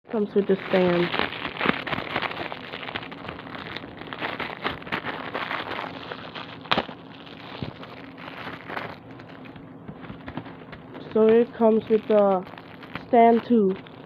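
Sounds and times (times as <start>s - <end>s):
toy packaging crackling: 0.2s - 14.0s.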